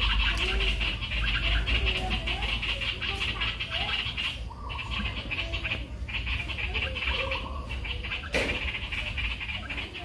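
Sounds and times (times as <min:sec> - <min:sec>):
squeaky chirps: 0:00.0 - 0:10.0.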